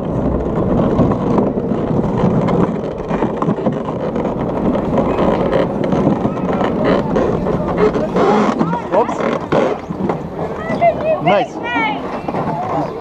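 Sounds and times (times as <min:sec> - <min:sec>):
wheels rumbling on concrete: 0:00.0 - 0:13.0
wind on microphone: 0:00.0 - 0:13.0.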